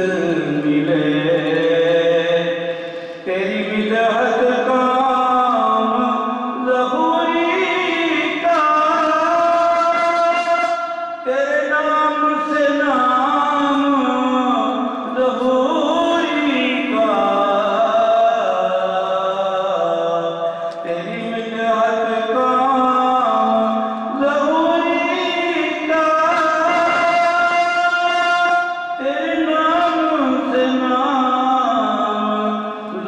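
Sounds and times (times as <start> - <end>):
man chanting into a microphone: 0.0 - 33.0.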